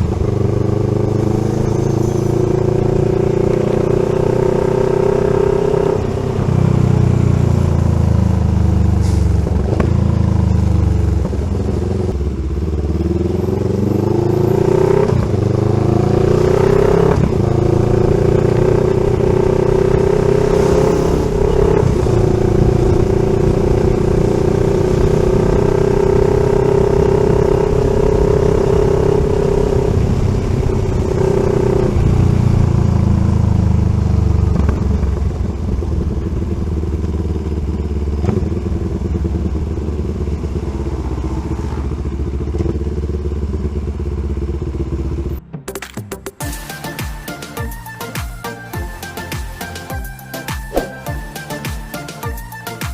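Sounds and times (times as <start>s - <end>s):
motorcycle engine while riding: 0.0s - 45.4s.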